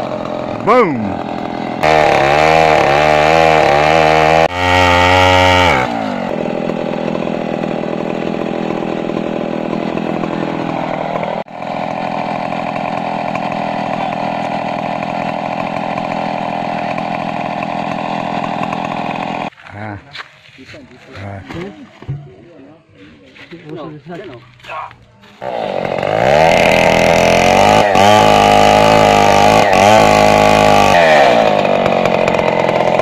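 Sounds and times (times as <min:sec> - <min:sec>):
chainsaw cutting wood: 0:00.0 - 0:19.6, 0:25.4 - 0:33.0.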